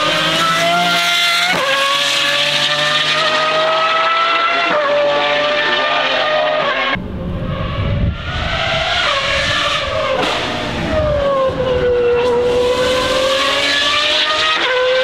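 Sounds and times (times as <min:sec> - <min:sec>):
car engine screaming at high revs: 0:00.0 - 0:15.0.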